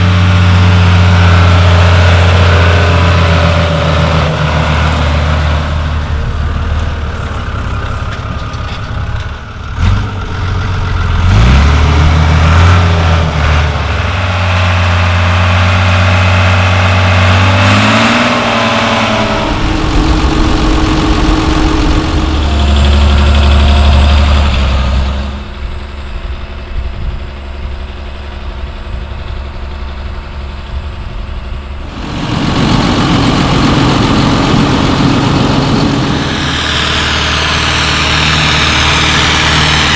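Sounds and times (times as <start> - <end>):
quieter engine running: 0.0 - 39.9
tractor diesel engine revving: 0.0 - 39.9.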